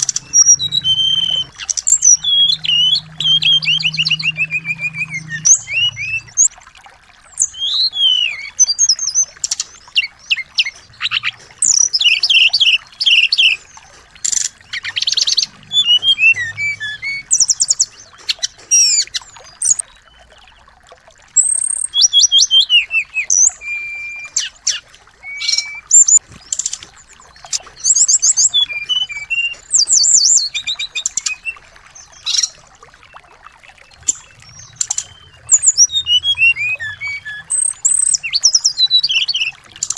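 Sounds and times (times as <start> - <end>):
songbirds chirping and trilling: 0.0 - 6.6, 7.2 - 39.9.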